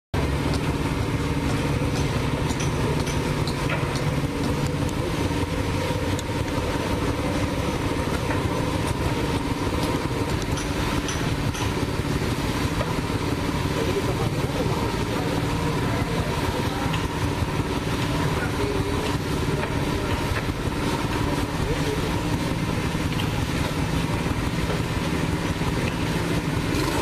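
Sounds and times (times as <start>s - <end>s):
petrol engine idling: 0.2s - 27.0s.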